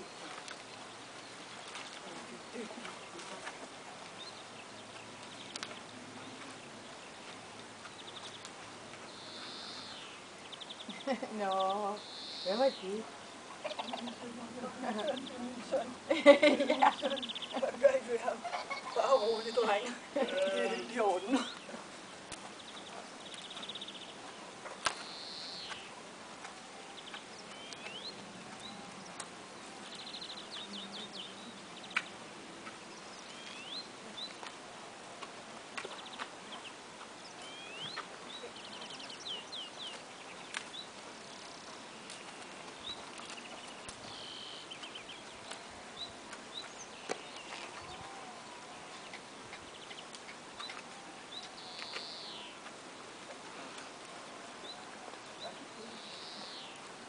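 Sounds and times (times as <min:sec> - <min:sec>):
faint rural background noise: 0:00.0 - 0:57.0
songbirds chirping and trilling: 0:00.0 - 0:57.0.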